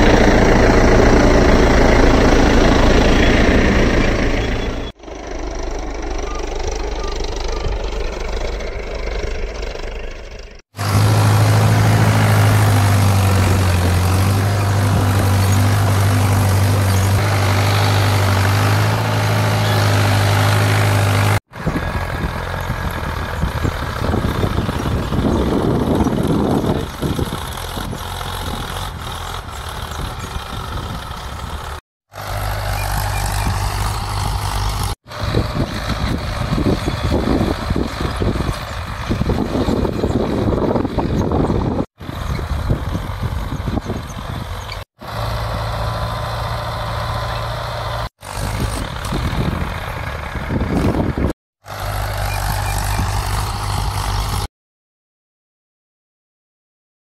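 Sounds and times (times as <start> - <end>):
tractor diesel engines running: 0.0 - 54.5.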